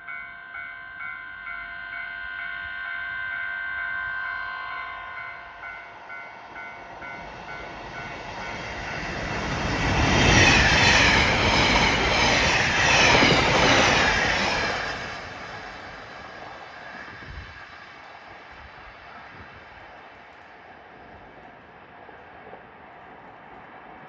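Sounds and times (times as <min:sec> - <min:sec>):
train passing at speed: 0:00.4 - 0:24.0.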